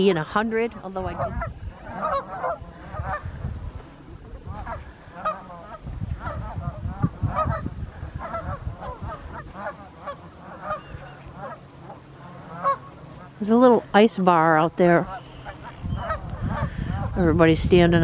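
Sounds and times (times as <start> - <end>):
geese honking: 0.0 - 17.3.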